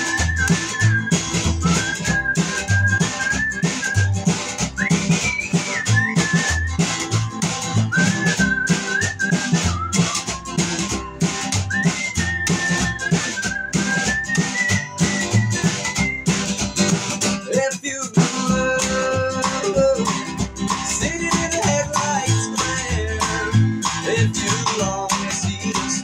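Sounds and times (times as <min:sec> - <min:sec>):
high held melody line: 0:00.0 - 0:17.3, 0:18.5 - 0:26.0
acoustic guitar: 0:00.0 - 0:26.0
bass: 0:00.0 - 0:26.0
drum kit beat: 0:00.0 - 0:26.0.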